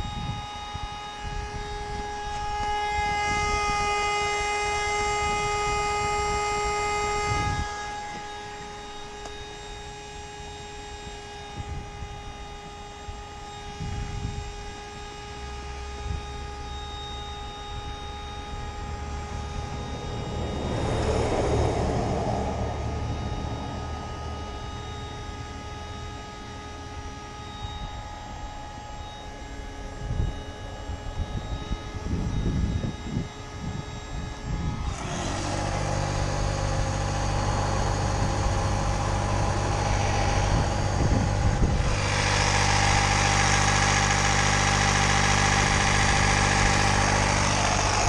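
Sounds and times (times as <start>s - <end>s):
electric air pump whine: 0.0s - 48.0s.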